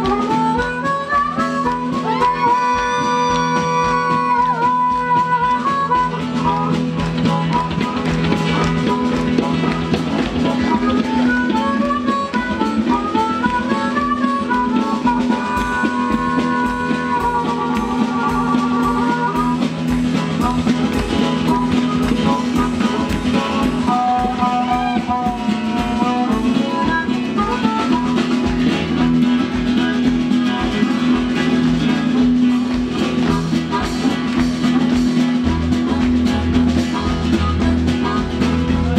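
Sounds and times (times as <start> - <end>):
drums keeping a steady beat: 0.0 - 38.9
harmonica solo: 0.0 - 38.9
upright bass: 0.0 - 38.9.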